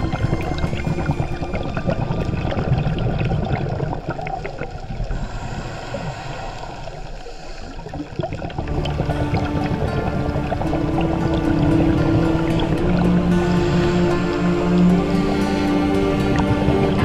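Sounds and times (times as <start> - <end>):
underwater exhaled air bubbles: 0.0 - 17.0
underwater water noise: 0.0 - 17.0.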